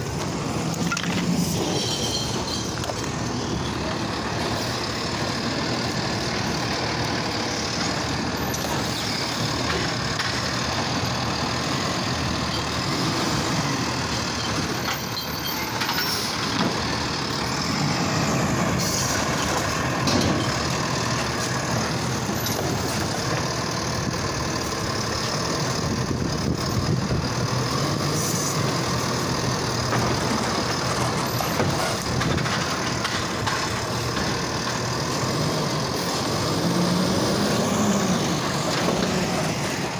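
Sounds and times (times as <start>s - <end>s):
garbage truck diesel engine running: 0.0s - 39.9s.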